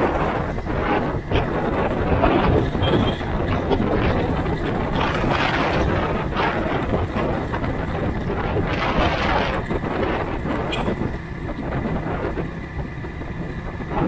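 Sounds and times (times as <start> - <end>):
motorcycle engine: 0.0 - 14.0
road noise: 0.0 - 14.0
wind rushing over microphone: 0.0 - 14.0.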